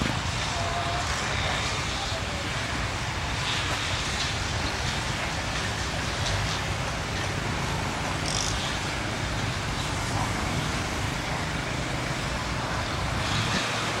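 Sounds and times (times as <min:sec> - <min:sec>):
diesel train engine rumbling: 0:00.0 - 0:14.0
outdoor noise: 0:00.0 - 0:14.0.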